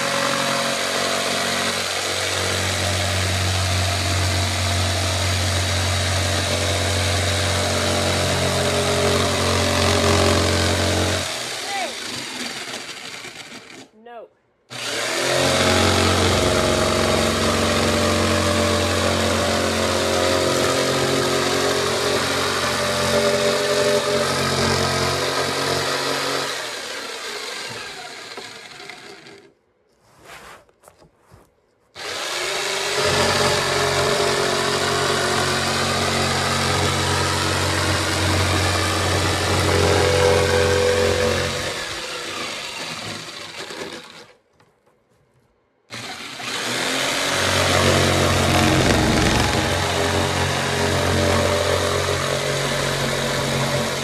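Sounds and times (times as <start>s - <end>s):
jigsaw cutting paneling: 0.0s - 13.9s, 14.7s - 29.6s, 32.0s - 44.4s, 45.9s - 54.0s.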